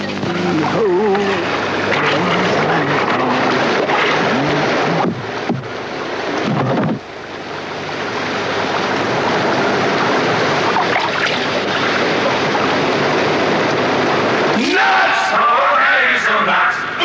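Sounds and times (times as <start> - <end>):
water splashing from oars: 0.0 - 14.4
sea waves: 0.0 - 17.0.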